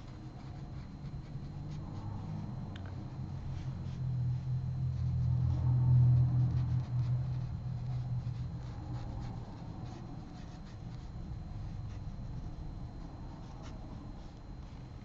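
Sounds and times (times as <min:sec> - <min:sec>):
brush scratching on paper: 0:00.0 - 0:15.0
low steady hum: 0:00.0 - 0:15.0.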